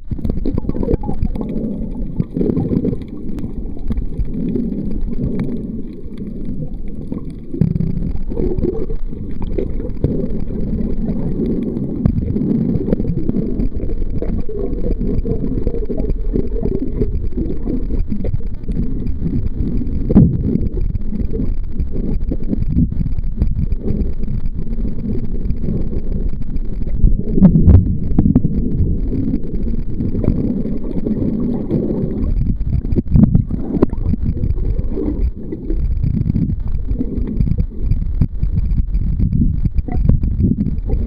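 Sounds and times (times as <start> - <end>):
muffled underwater sea rumble: 0.0 - 41.0.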